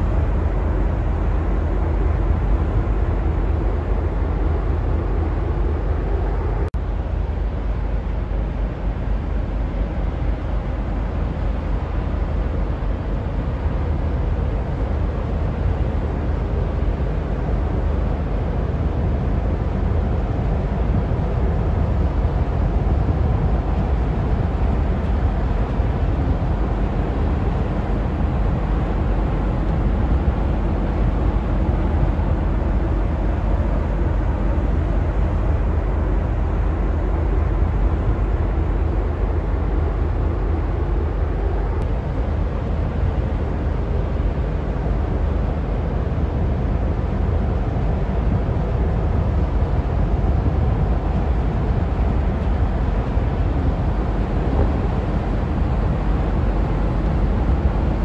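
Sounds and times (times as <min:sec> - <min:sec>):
ship engine rumble: 0:00.0 - 0:58.0.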